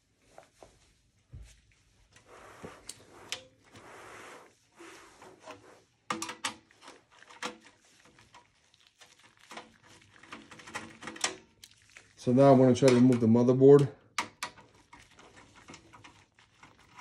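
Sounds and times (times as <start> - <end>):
rustling and scraping: 0.0 - 13.4, 14.6 - 17.0.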